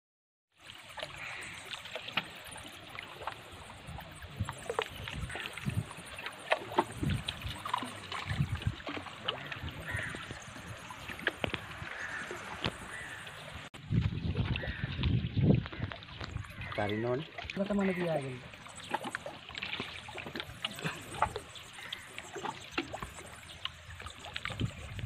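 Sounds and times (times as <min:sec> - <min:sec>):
water lapping against rocks: 0:00.6 - 0:25.0.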